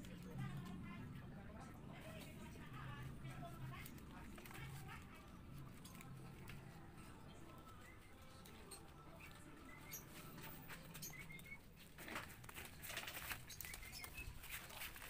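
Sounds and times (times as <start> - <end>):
birds chirping: 0.0 - 15.0
leaves rustling and crackling: 2.0 - 15.0.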